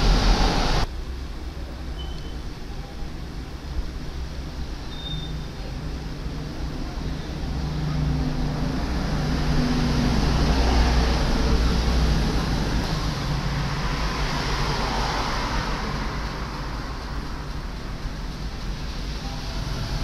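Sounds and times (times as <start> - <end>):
road traffic engine hum: 0.0 - 20.0.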